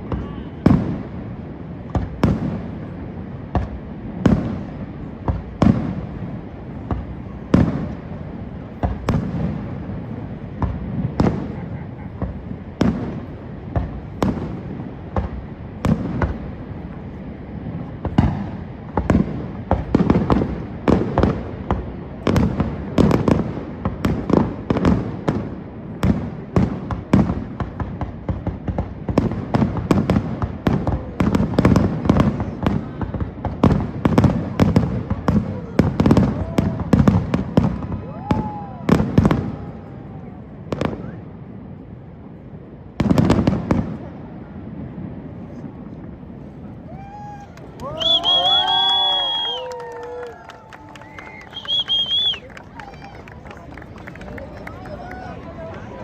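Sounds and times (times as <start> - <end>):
fireworks booming: 0.0 - 40.0, 40.6 - 53.0.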